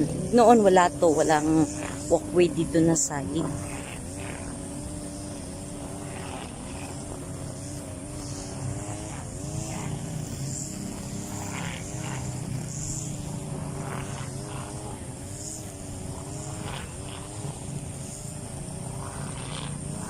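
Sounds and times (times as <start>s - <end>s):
grass cutter engine drone: 0.0s - 20.0s.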